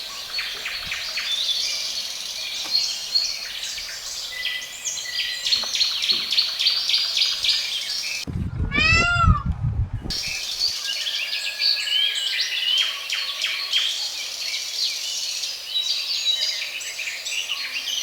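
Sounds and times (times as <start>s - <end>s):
small birds chirping: 0.0s - 9.1s, 10.1s - 18.0s.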